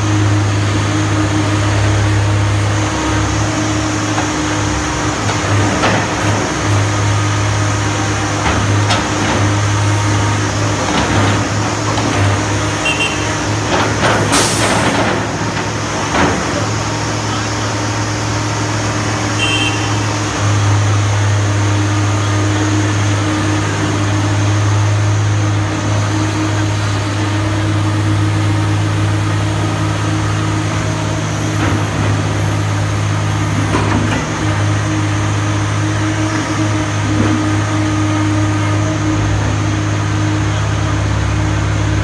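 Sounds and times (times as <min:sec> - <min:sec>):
excavator diesel engine humming: 0:00.0 - 0:42.0.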